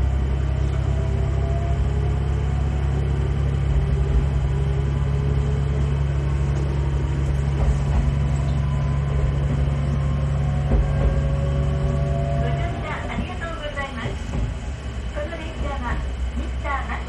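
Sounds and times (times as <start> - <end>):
diesel railcar engine drone: 0.0 - 17.0.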